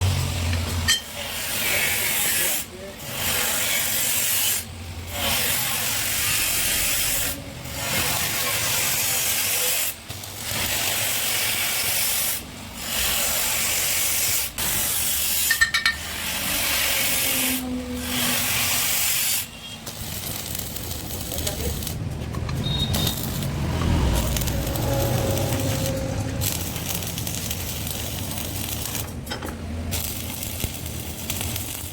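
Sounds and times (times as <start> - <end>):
arc welding sizzling: 0.0 - 31.9.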